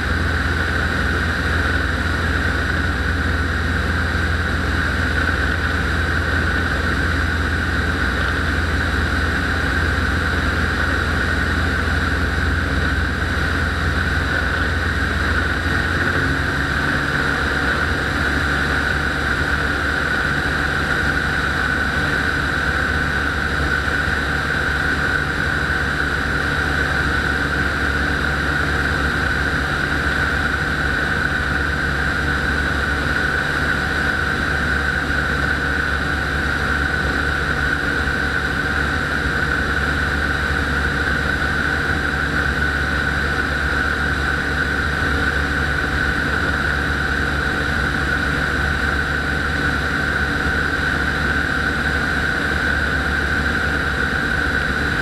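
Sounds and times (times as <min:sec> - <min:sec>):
microlight engine and propeller: 0:00.0 - 0:55.0.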